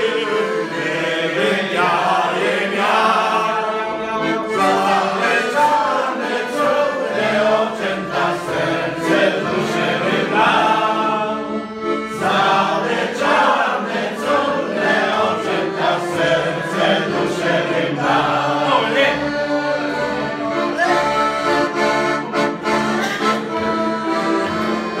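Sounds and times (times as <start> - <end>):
group of people singing: 0.0 - 21.0
piano accordion playing: 0.0 - 25.0.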